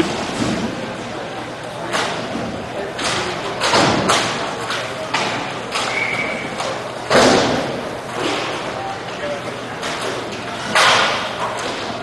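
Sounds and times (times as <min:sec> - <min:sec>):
pucks and sticks hitting boards: 0:00.0 - 0:00.8, 0:01.8 - 0:08.8, 0:09.7 - 0:12.0.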